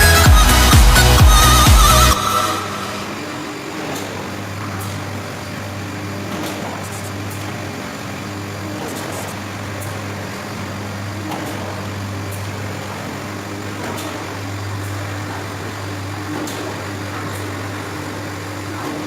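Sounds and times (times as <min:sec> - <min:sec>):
filling machine humming: 0:00.0 - 0:19.0.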